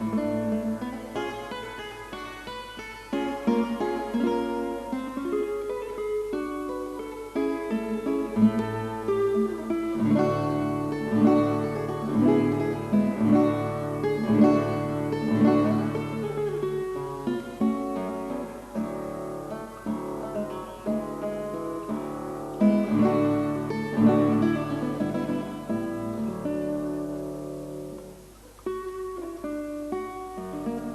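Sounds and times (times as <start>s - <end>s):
acoustic guitar music: 0.0s - 30.9s.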